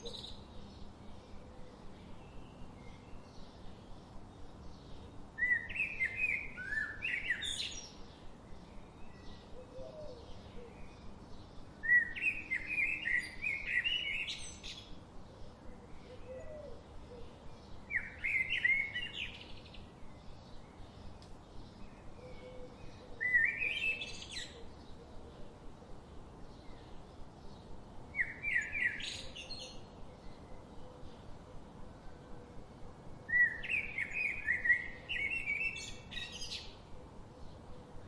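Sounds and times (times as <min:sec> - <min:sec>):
soft background hiss: 0:00.0 - 0:38.0
songbird chirping: 0:00.0 - 0:38.0.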